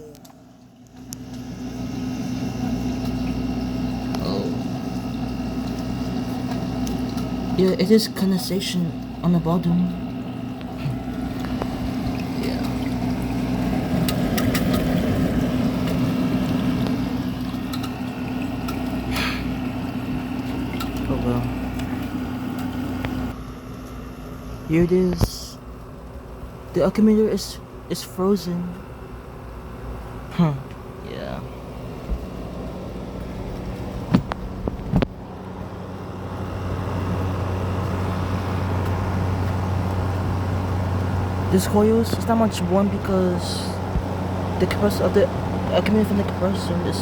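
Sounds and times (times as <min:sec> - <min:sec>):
air conditioner humming: 0:00.0 - 0:47.0.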